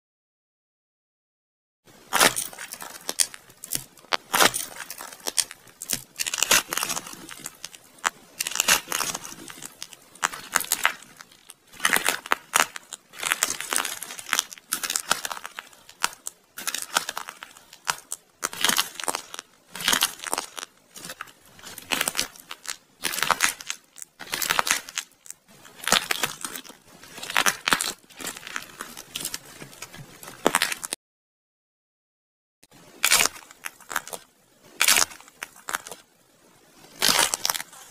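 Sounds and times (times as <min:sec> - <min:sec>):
dried clay cracking and crumbling: 0:01.9 - 0:31.0, 0:32.7 - 0:37.9.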